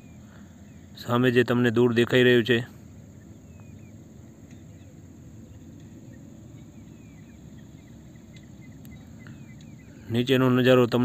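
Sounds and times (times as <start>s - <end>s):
bird chirps: 0.0s - 11.0s
low steady rumble: 0.0s - 11.0s.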